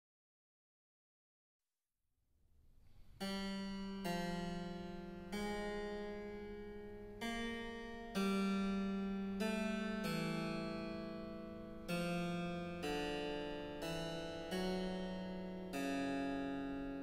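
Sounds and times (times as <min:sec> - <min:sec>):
harpsichord chords: 0:03.3 - 0:17.0.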